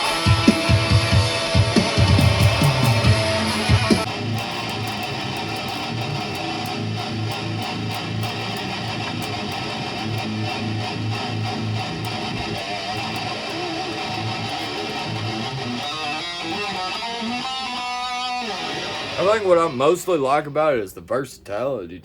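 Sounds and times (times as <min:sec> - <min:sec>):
electric guitar riff: 0:00.0 - 0:20.0.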